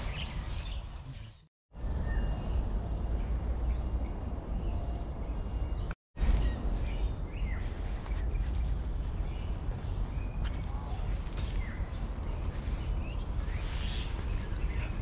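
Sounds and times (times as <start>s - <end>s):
small birds chirping: 2.0s - 15.0s.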